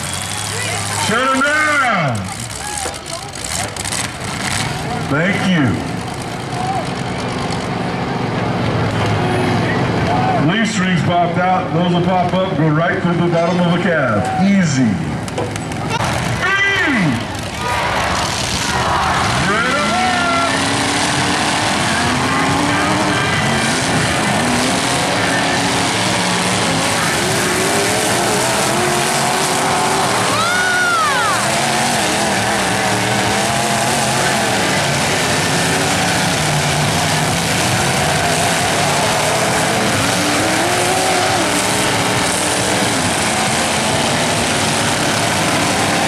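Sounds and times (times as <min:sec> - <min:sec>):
truck engines revving: 0:00.0 - 0:46.0.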